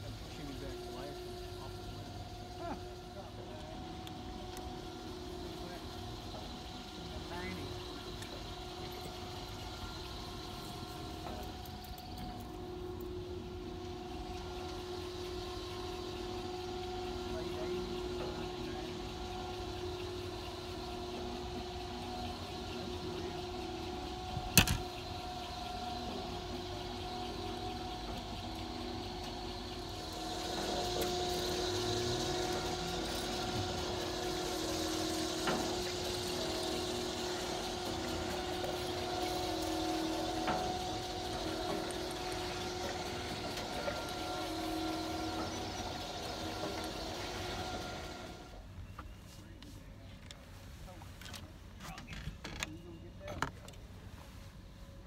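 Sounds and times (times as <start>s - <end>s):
motor humming: 0.0s - 54.1s.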